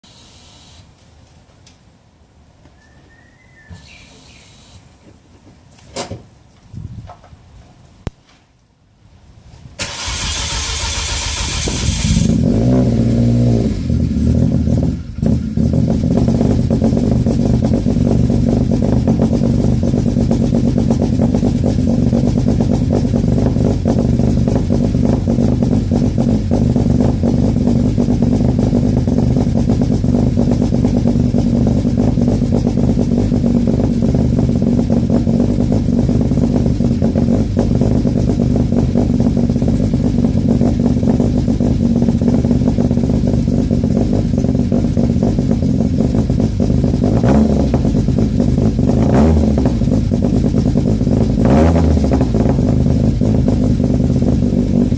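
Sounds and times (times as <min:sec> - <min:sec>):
car engine starting and idling: 0:09.8 - 0:54.9.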